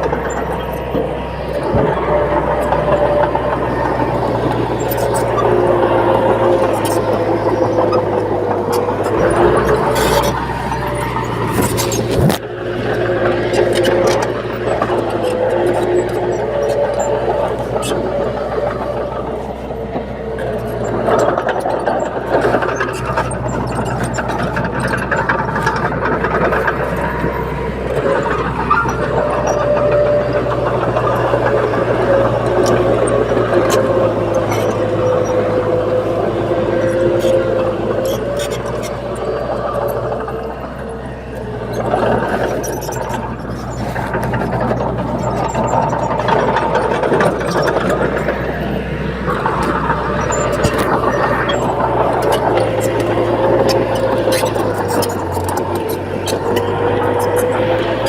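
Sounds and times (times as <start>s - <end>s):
bulldozer diesel engine running: 0.0s - 58.0s
clicks and clanks: 0.0s - 58.0s.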